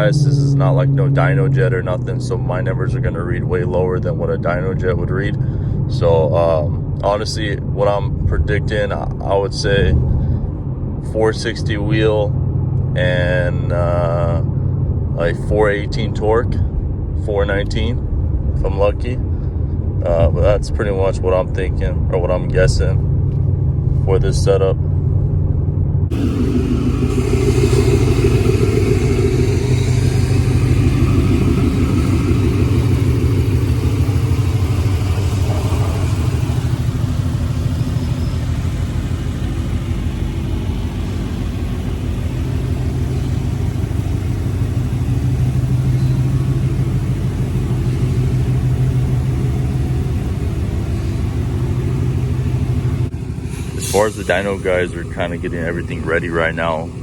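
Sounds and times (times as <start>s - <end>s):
car engine idling with deep exhaust: 0.0s - 57.0s.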